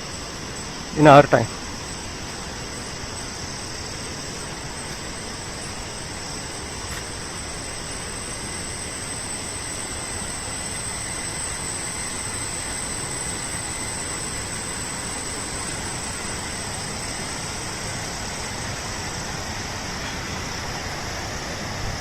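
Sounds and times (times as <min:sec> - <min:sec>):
thin steady high tone: 0:00.0 - 0:22.0.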